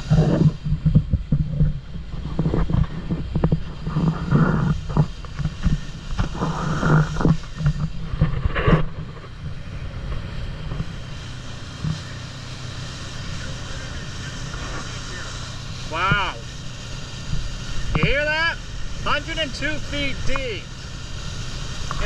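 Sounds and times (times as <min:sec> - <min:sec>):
boat motor running: 0:00.0 - 0:22.0
wind and water noise: 0:00.0 - 0:22.0.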